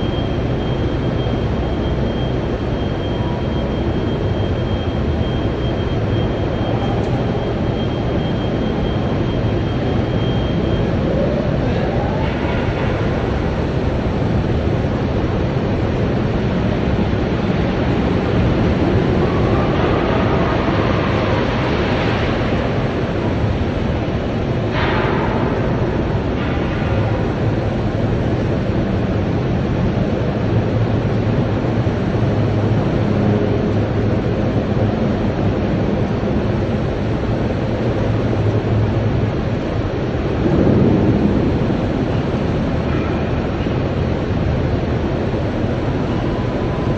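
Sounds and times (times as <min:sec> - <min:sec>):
loud industrial roar: 0:00.0 - 0:46.9.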